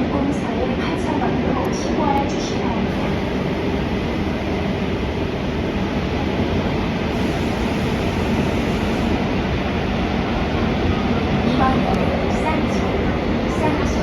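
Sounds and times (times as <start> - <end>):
subway train running: 0.0 - 14.0.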